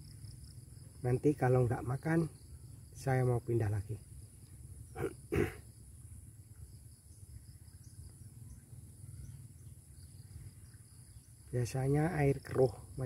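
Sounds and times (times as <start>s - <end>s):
insects chirring: 0.0s - 13.0s
low steady rumble: 0.0s - 13.0s.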